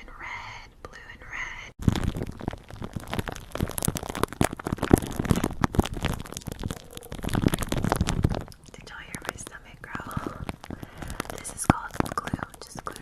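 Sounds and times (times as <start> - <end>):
stomach gurgling and rumbling: 0.0 - 13.0.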